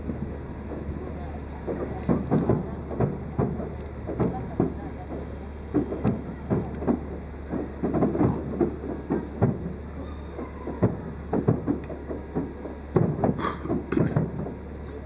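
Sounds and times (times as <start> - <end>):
distant firework booms: 0.0 - 15.0.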